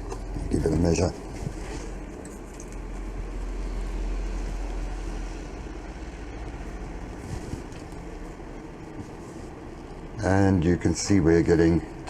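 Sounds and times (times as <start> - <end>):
low background rumble and hiss: 0.0 - 12.0.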